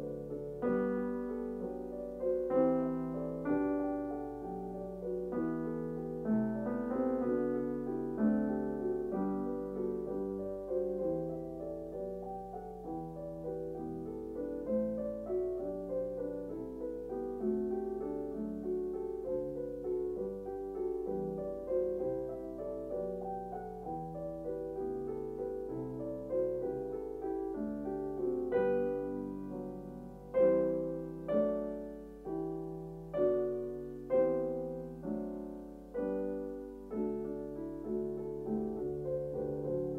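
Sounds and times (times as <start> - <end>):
slow solo piano music: 0.0 - 39.9.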